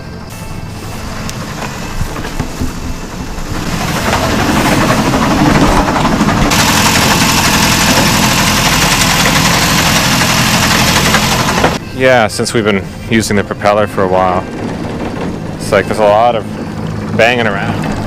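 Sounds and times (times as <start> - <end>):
clunky vibration and banging: 0.0 - 11.9, 13.3 - 18.0
boat engine running: 0.0 - 18.0.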